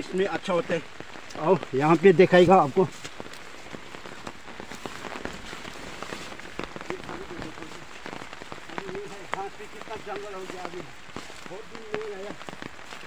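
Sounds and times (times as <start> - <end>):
light rain pattering on leaves: 0.0 - 13.0
wet undergrowth swishing: 1.4 - 13.0.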